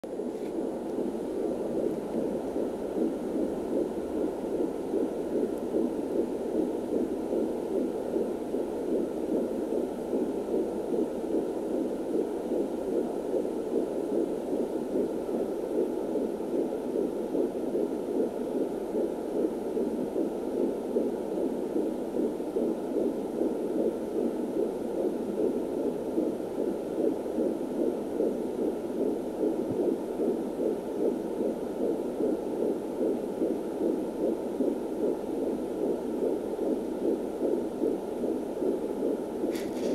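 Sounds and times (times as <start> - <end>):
fetal heartbeat whooshing pulses: 0.0 - 39.9.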